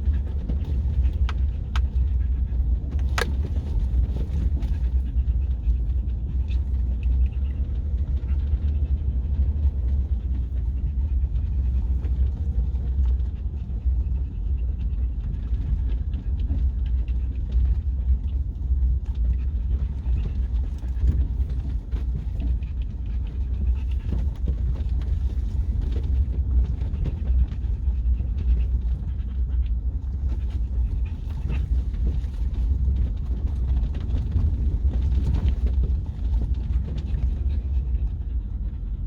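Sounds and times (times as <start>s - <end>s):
truck driving rumble: 0.0s - 39.0s.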